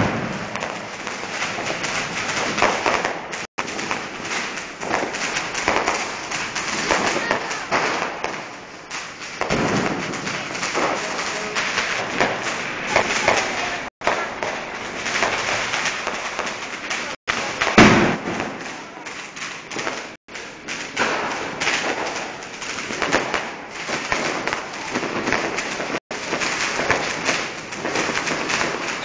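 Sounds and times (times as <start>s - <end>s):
loud firework bang: 0.0s - 8.5s, 9.4s - 19.0s, 19.7s - 29.0s
firecrackers crackling: 0.0s - 29.0s.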